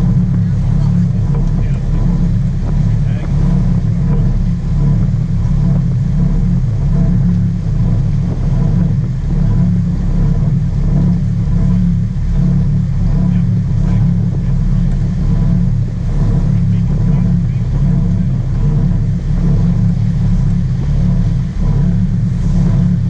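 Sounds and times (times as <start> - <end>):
boat engine rumbling: 0.0 - 23.0.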